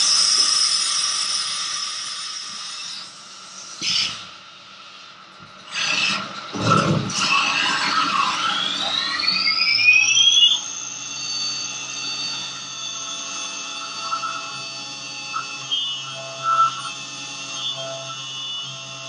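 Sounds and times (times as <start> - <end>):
tool cutting metal: 0.0 - 4.4, 5.6 - 19.0
mill spindle whine: 0.0 - 19.0.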